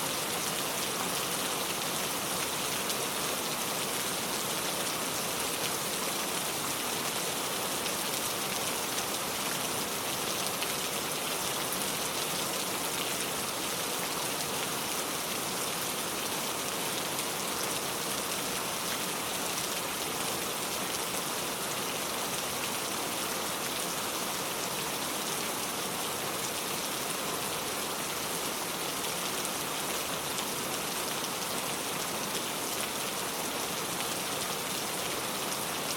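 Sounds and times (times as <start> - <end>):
steady rainfall: 0.0 - 35.9.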